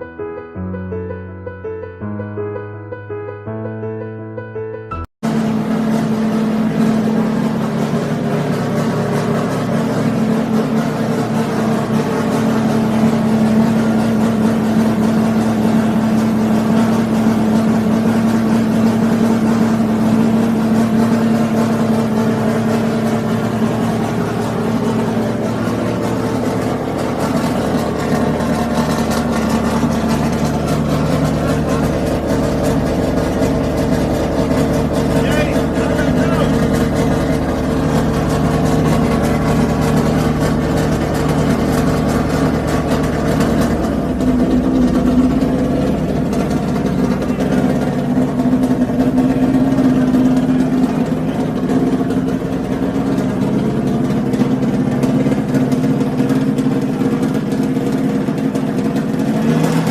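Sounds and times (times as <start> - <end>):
car engine running: 4.9 - 59.9.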